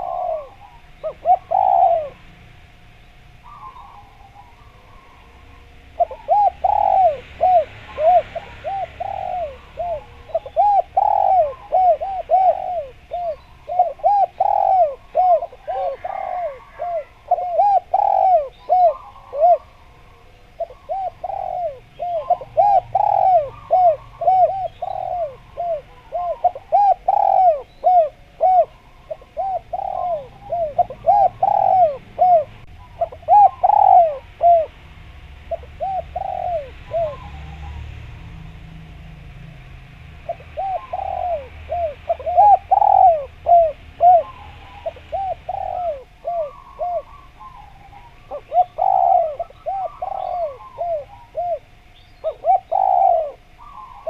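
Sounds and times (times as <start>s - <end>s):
dove cooing: 0.0s - 38.5s, 40.1s - 54.0s.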